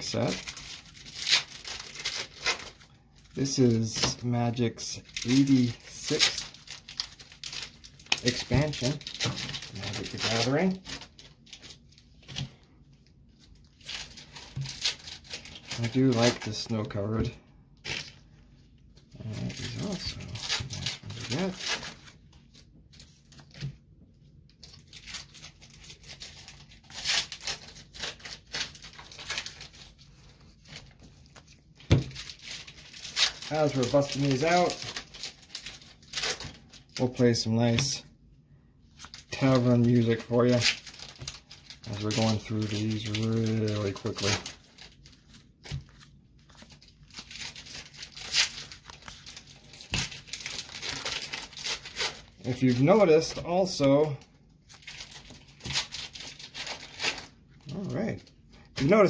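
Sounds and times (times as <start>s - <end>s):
cards and wrappers rustling: 0.0s - 23.8s, 24.5s - 38.1s, 38.9s - 59.0s.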